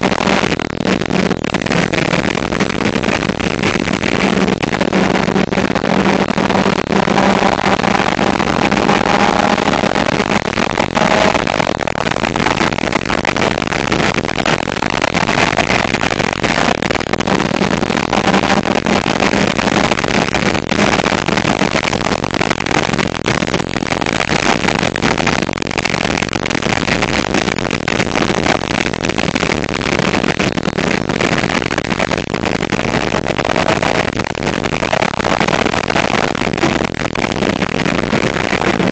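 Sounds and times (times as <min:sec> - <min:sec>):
car engine drone: 0:00.0 - 0:31.2
wind and road noise: 0:00.0 - 0:38.9.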